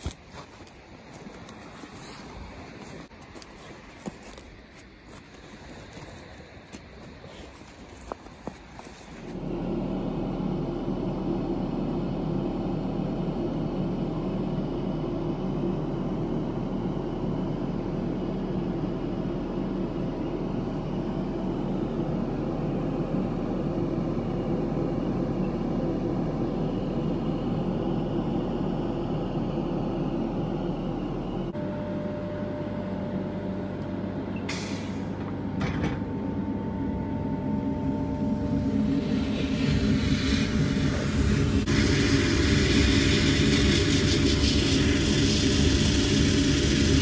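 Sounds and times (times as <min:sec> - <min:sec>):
workshop machine humming: 0:00.0 - 0:47.0.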